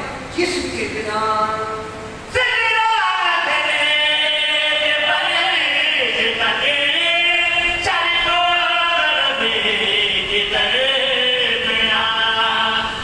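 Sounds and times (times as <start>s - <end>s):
melodic devotional chanting: 0.0s - 13.0s.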